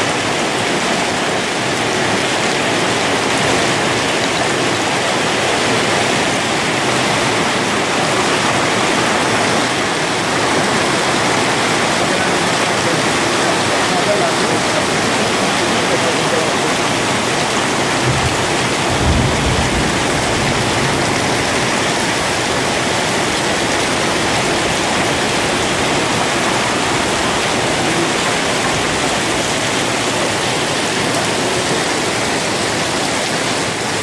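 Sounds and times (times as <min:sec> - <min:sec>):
heavy hail and rain pelting: 0:00.0 - 0:34.0.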